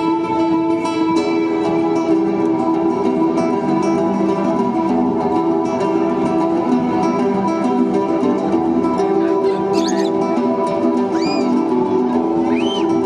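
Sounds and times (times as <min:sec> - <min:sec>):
acoustic guitar plucked notes: 0:00.0 - 0:13.0.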